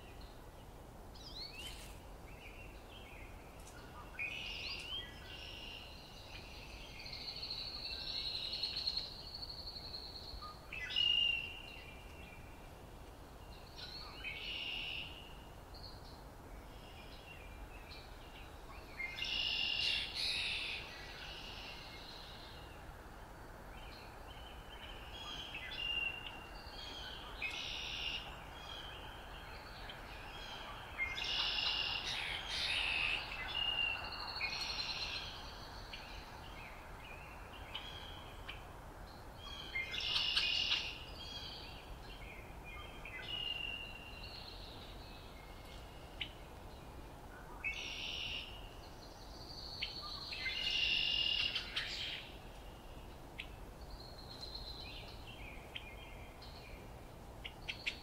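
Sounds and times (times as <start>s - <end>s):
faint background hiss: 0.0s - 58.0s
songbirds singing: 0.0s - 58.0s.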